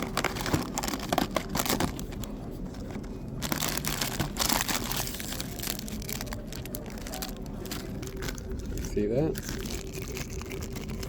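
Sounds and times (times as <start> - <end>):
dense packaging rustle: 0.0 - 11.0
packaging crinkling: 0.0 - 11.0.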